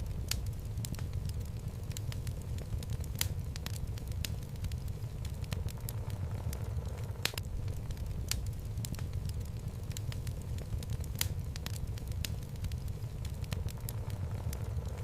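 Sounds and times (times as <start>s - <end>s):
fire flames rumbling: 0.0s - 15.0s
wood fire crackles and pops: 0.0s - 15.0s.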